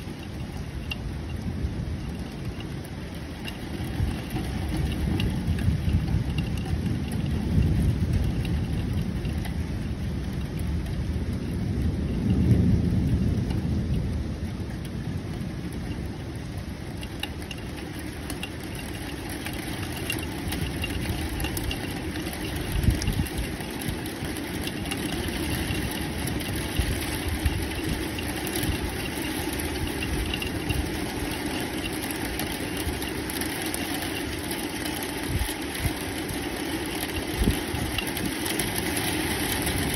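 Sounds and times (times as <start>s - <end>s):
heavy rain: 0.0s - 39.9s
low rolling thunder: 0.0s - 39.9s.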